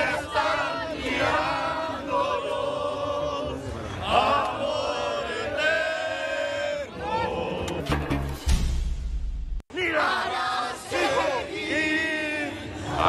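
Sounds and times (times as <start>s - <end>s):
crowd chanting in unison: 0.0s - 8.1s, 9.7s - 13.0s.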